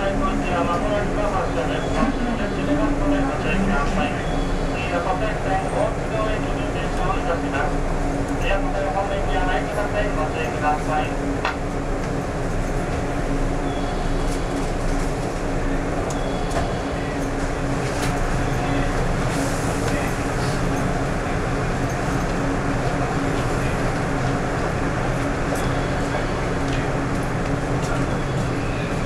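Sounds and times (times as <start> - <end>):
electric train interior hum: 0.0 - 29.0.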